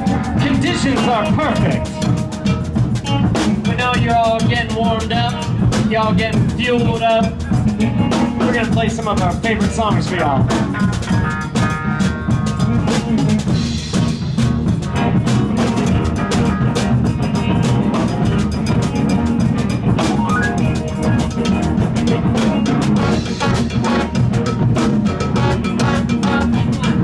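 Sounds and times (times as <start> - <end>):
saxophones and trombone playing: 0.0 - 5.8, 6.7 - 14.2, 14.8 - 27.0
bass: 0.0 - 27.0
drum kit beat: 0.0 - 27.0
electric guitar: 0.0 - 27.0.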